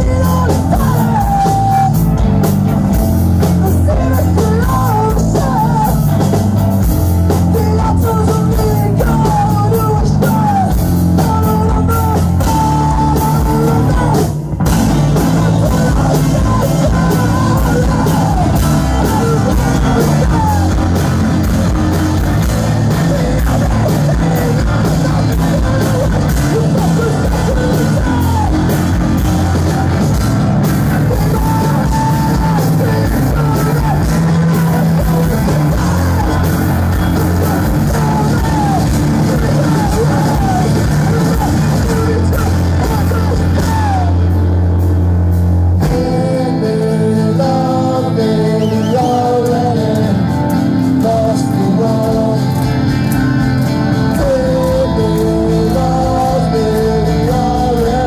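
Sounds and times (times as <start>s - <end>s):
band vocals: 0.0s - 58.0s
bass guitar: 0.0s - 58.0s
distorted guitar: 0.0s - 58.0s
drums: 0.0s - 58.0s.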